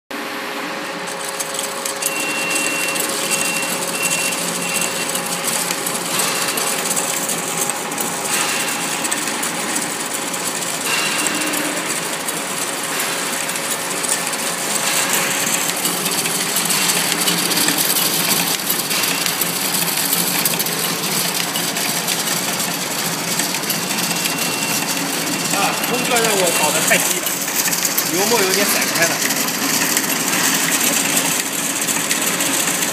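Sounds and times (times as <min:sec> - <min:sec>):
packing machine clattering: 0:01.0 - 0:32.9.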